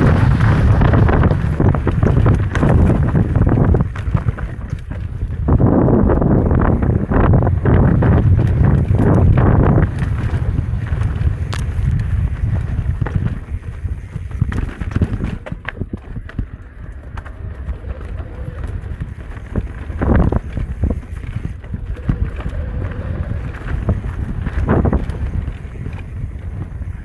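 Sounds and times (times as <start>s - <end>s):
bike clicking and knocking: 0.0s - 27.0s
tyres rolling over dirt: 0.0s - 27.0s
wind rushing over microphone: 0.0s - 27.0s.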